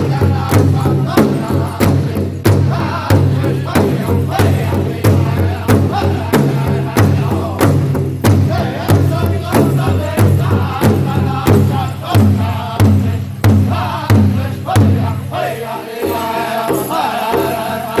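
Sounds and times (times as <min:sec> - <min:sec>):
big drum heavy beat: 0:00.0 - 0:18.0
group singing in high strained voices: 0:00.0 - 0:18.0.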